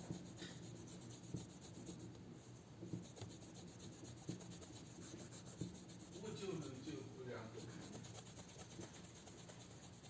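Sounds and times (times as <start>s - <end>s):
rubbing strokes on watch crystal: 0.0s - 10.0s.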